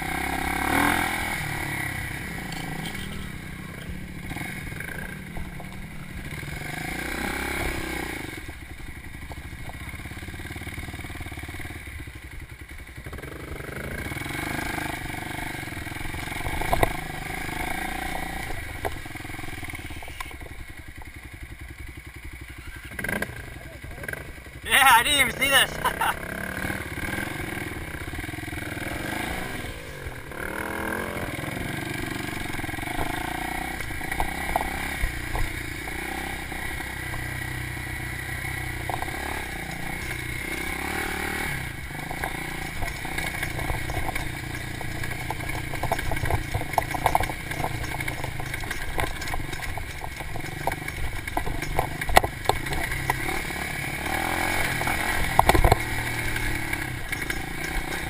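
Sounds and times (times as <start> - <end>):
bike clattering over bumps: 0.0 - 22.4, 26.8 - 58.0
dirt bike engine revving: 0.0 - 58.0.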